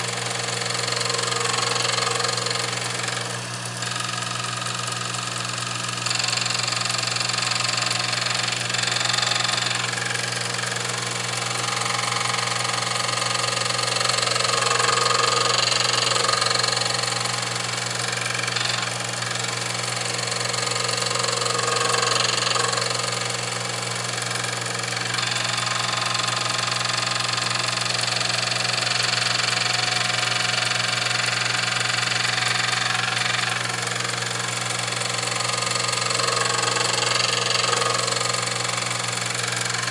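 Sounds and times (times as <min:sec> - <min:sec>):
hissing grind of grinding wheel: 0:00.0 - 0:39.9
motor hum: 0:00.0 - 0:39.9.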